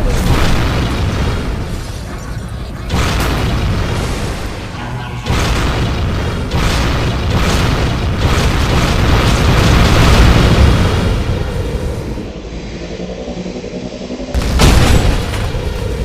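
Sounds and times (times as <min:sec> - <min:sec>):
rocket engines roaring: 0:00.0 - 0:16.0.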